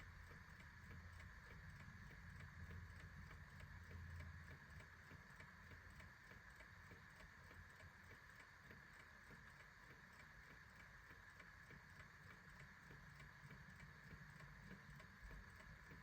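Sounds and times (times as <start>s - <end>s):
clock ticking: 0.0s - 16.0s.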